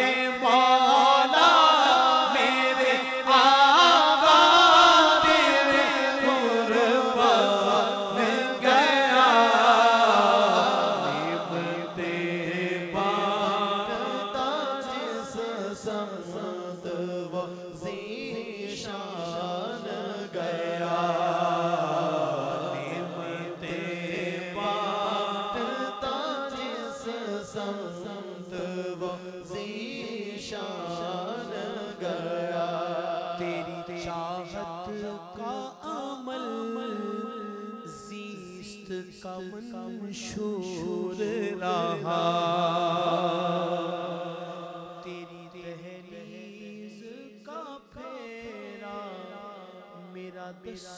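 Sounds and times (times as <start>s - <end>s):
man singing long melodic lines: 0.0s - 50.9s.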